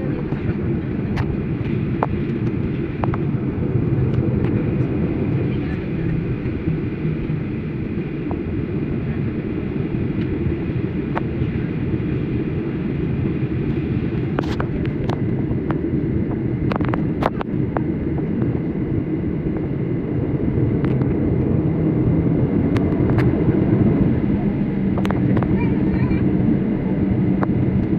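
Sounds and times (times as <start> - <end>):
airplane cabin rumble: 0.0 - 27.9.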